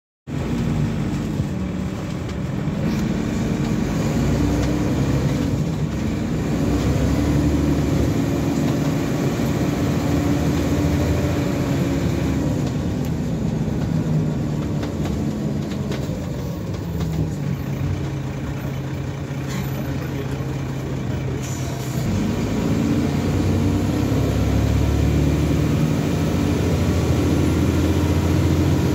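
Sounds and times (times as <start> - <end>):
bus diesel engine running: 0.3 - 28.9.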